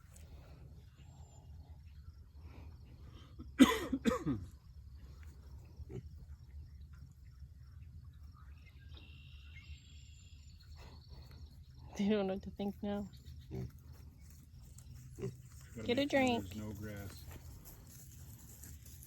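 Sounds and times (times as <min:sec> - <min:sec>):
faint insect chirring: 0:00.0 - 0:19.0.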